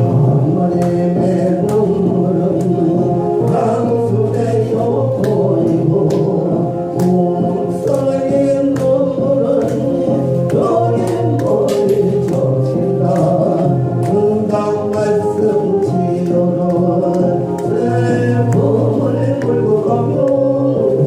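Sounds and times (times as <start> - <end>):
gospel song with accompaniment: 0.0 - 21.0.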